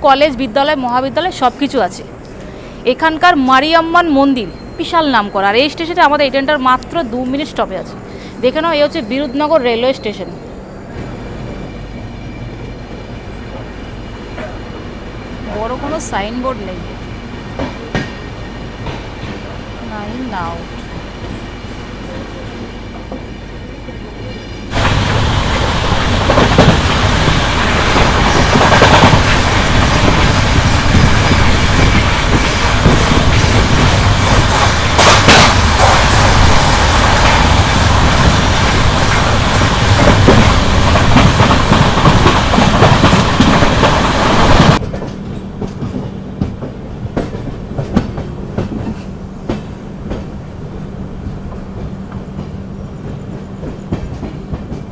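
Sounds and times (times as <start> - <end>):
train rumbling on rails: 0.0 - 54.9.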